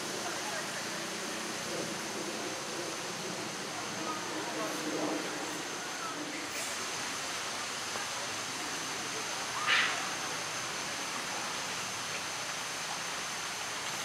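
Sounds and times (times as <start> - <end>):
forest ambience hiss: 0.0 - 14.0.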